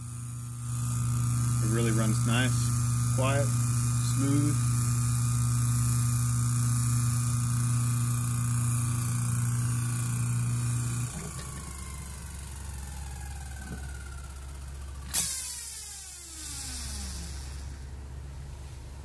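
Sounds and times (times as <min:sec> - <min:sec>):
electric motor humming: 0:00.0 - 0:18.2
motor coasting down whine: 0:00.0 - 0:18.4.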